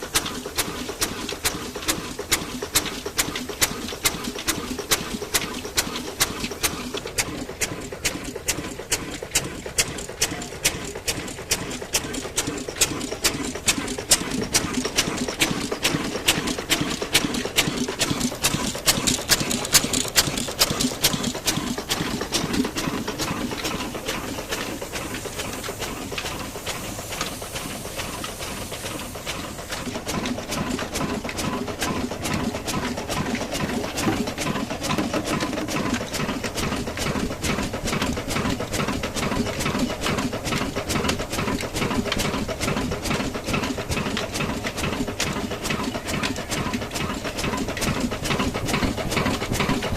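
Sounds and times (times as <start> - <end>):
stationary engine knocking: 0.0 - 49.9.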